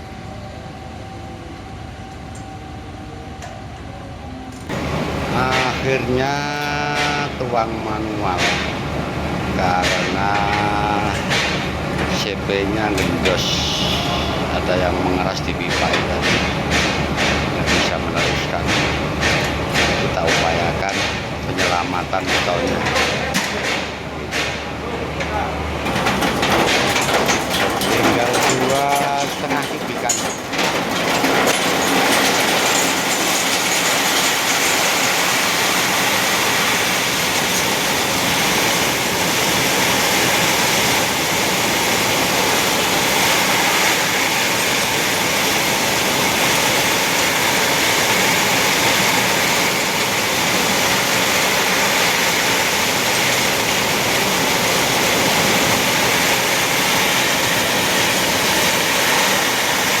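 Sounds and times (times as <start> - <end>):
steady machinery noise: 3.4 - 60.0.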